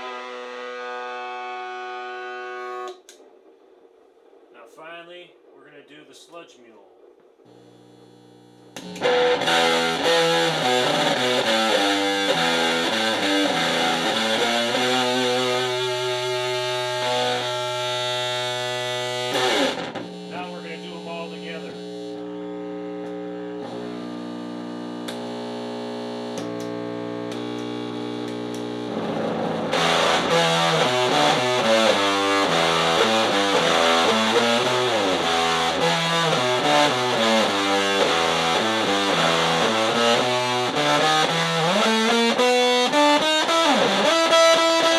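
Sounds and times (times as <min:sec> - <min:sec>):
distorted electric guitar: 0:00.0 - 0:03.1, 0:07.4 - 0:44.9.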